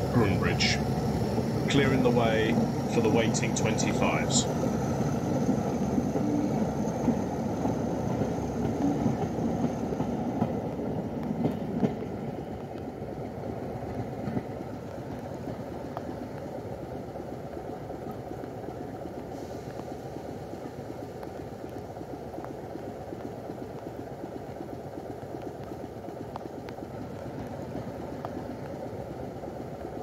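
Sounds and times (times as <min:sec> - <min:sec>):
diesel locomotives idling: 0:00.0 - 0:30.0
diesel train pulling away: 0:00.0 - 0:30.0.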